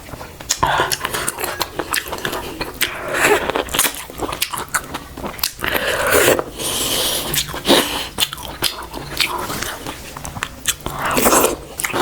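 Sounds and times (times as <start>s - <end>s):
chewing and biting food: 0.0s - 12.0s.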